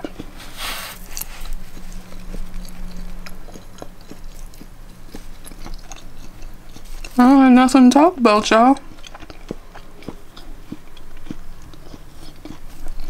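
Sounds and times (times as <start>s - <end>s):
chewing mouth clicks: 0.0s - 7.2s, 8.8s - 13.0s.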